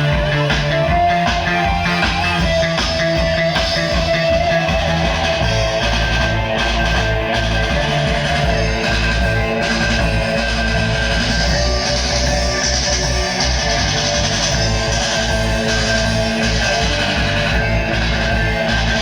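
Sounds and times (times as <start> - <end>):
guitar music: 0.0 - 19.0.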